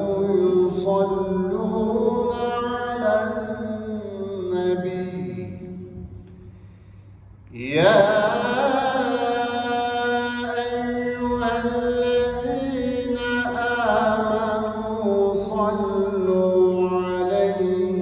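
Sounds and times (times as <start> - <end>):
man chanting into a microphone: 0.0 - 6.1, 7.5 - 18.0.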